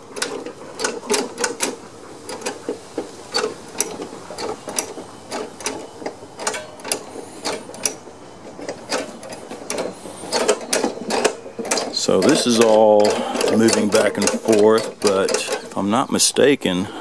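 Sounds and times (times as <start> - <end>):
metal linkage clicks and clunks: 0.0 - 16.5.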